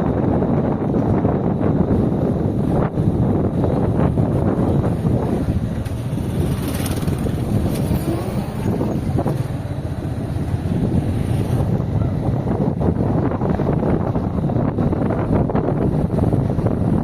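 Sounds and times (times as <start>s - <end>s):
wind rushing over microphone: 0.0s - 17.0s
motorbike engine running: 2.8s - 17.0s.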